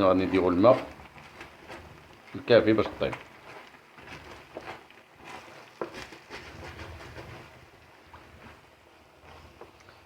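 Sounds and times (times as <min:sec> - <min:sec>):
spoon scraping a pan: 0:00.0 - 0:08.6.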